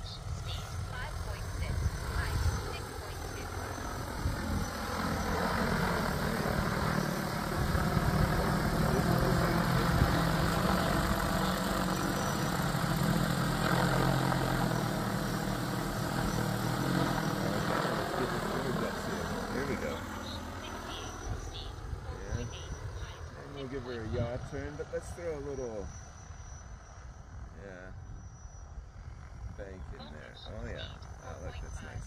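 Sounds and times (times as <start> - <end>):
drone propellers humming: 0.0 - 32.0.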